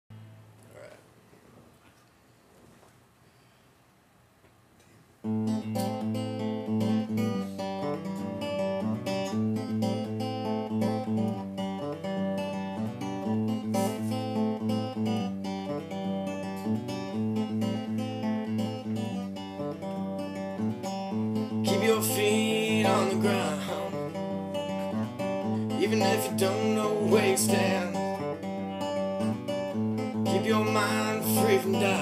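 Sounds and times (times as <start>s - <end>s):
acoustic guitar chords: 5.2s - 32.0s.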